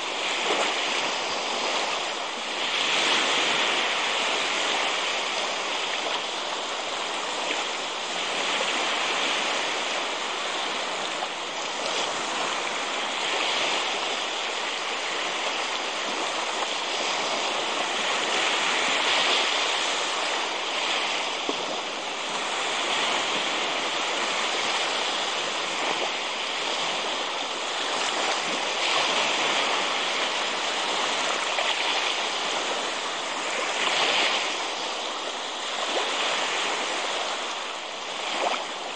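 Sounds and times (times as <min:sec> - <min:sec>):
small waves washing on shore: 0:00.0 - 0:38.9.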